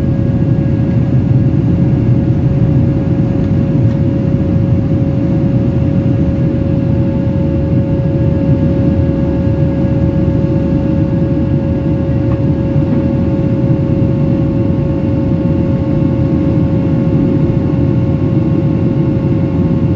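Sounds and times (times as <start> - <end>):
constant whine: 0.0 - 19.9
jet engine and airflow rumble: 0.0 - 19.9.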